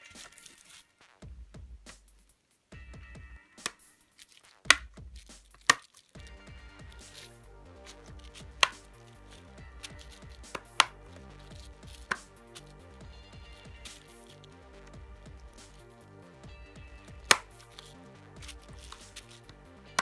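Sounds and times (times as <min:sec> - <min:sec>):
soft background music: 0:02.8 - 0:20.0.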